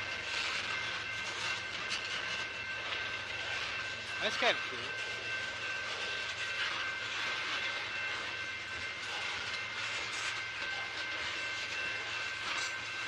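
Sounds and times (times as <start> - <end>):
thin high tone: 0.4 - 13.0.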